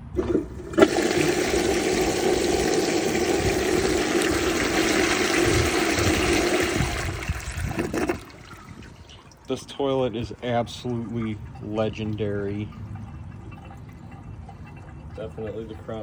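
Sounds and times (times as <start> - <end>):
toilet flushing: 0.0 - 16.0.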